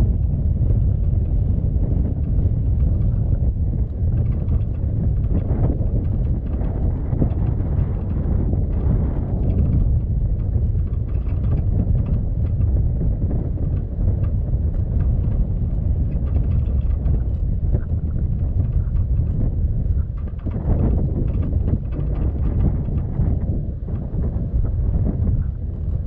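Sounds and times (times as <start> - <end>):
vehicle driving on dirt road: 0.0 - 26.0
wind buffeting microphone: 0.0 - 26.0.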